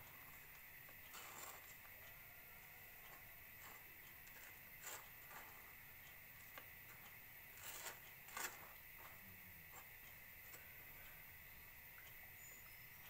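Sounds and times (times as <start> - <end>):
spoon scraping on bread: 0.0 - 11.0
faint background hiss: 0.0 - 13.0.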